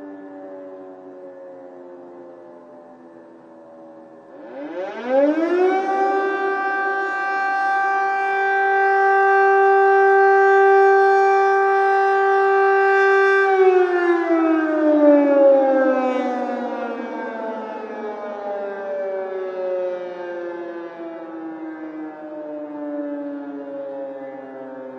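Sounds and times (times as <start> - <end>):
air raid siren wailing: 0.0 - 24.9.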